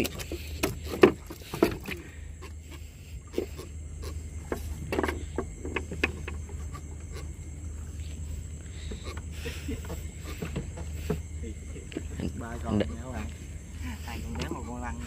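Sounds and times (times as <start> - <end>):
fish flopping on wooden planks: 0.0 - 12.1.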